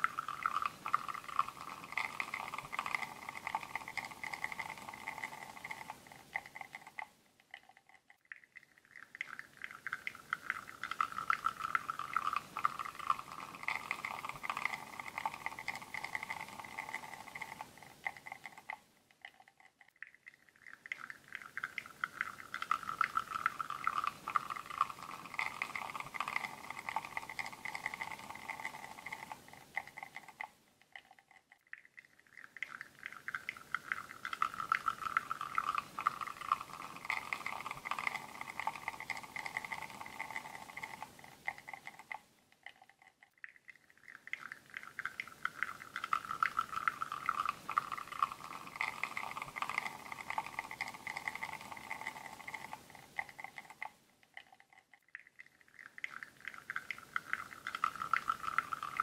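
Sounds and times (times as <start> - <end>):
espresso sputtering trickle: 0.0 - 59.0.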